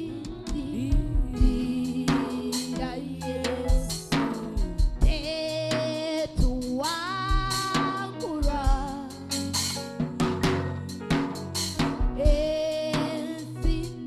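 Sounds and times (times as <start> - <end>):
bass: 0.0 - 14.0
drum kit: 0.0 - 14.0.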